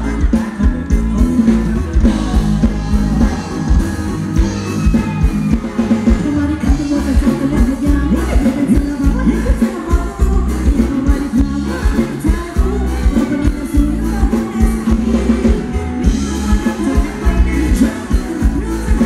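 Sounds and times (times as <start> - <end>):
live band dance music: 0.0 - 19.0
person singing: 0.0 - 19.0
steady drum beat: 0.0 - 19.0.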